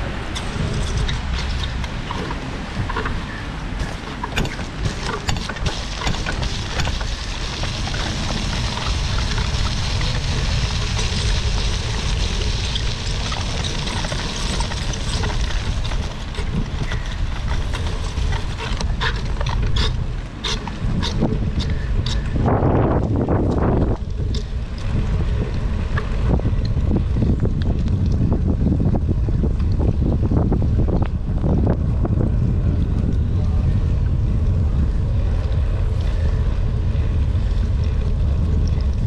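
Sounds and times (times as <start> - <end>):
tyres hissing on wet path: 0.0 - 27.2, 32.4 - 39.0
wind buffeting microphone: 0.0 - 39.0.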